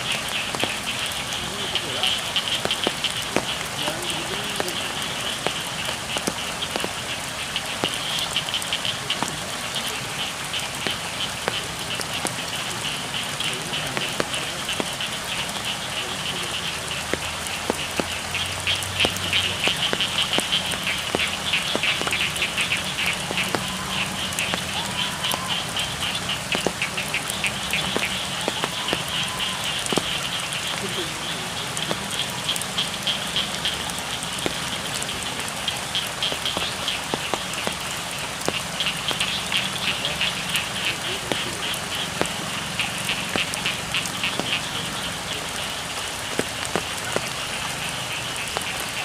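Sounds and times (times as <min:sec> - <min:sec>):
frogs calling in rapid pulses: 0:00.0 - 0:49.0
raindrop taps: 0:00.0 - 0:49.0
steady rain falling: 0:00.0 - 0:49.0.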